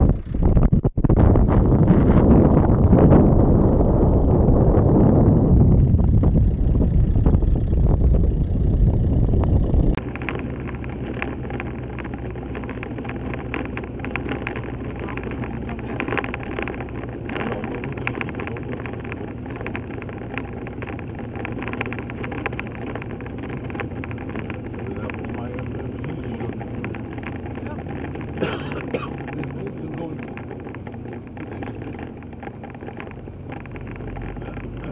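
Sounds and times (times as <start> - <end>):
clicks and rattles from bumpy track: 0.0 - 34.9
vehicle engine running: 0.0 - 34.9
wind buffeting microphone: 0.0 - 34.9.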